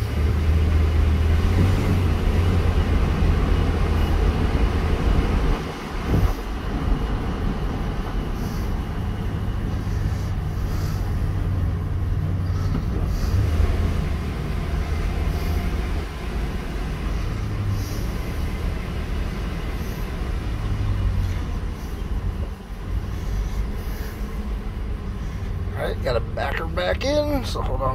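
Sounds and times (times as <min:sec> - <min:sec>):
road noise: 0:00.0 - 0:27.9
truck engine drone: 0:00.0 - 0:27.9.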